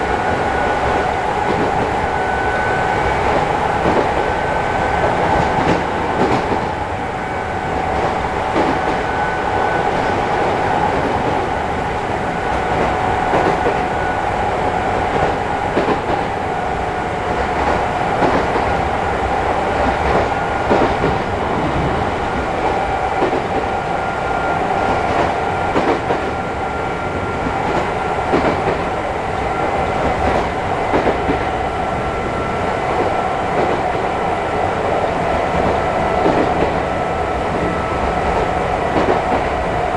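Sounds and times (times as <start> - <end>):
train running rumble: 0.0 - 39.9.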